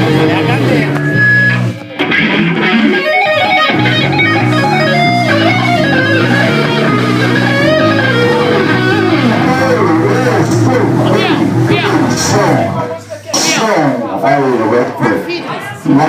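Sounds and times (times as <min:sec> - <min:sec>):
lead guitar bending notes: 0:00.0 - 0:13.7
bass guitar notes: 0:00.0 - 0:15.2.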